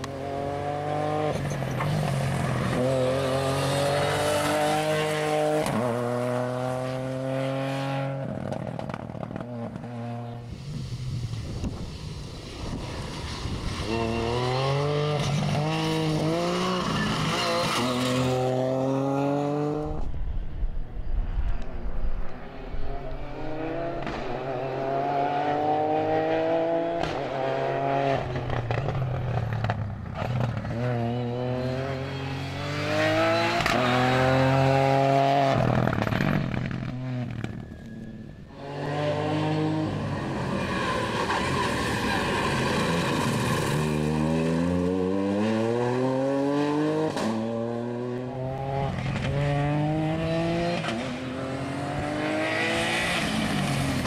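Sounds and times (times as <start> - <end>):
rally car engine at full throttle: 0.0 - 54.0.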